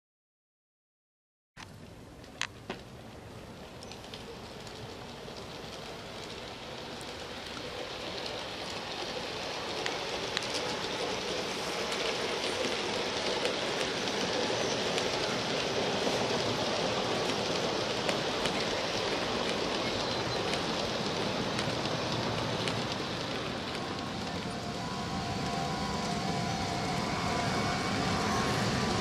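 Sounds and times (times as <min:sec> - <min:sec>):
model train wheels rolling: 0:02.2 - 0:29.0.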